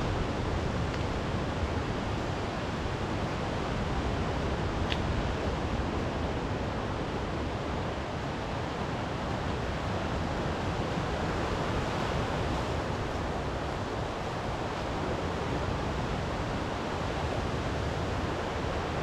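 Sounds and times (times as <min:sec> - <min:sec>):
wind: 0:00.0 - 0:19.0.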